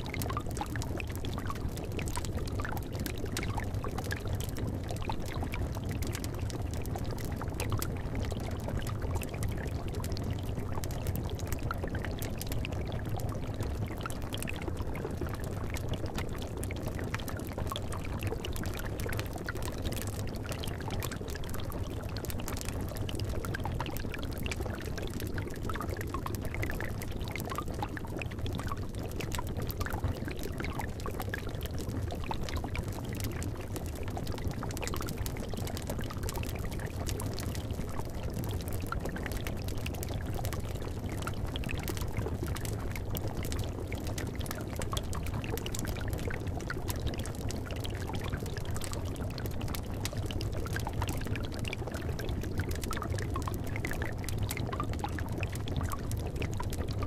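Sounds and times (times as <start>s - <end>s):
liquid bubbling in cauldron: 0.0s - 57.0s.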